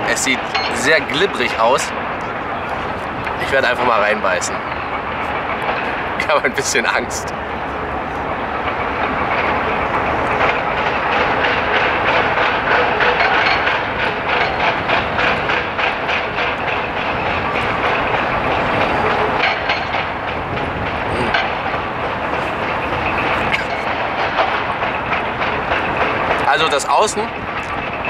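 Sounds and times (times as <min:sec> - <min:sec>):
loud mechanical rattling: 0:00.1 - 0:28.0.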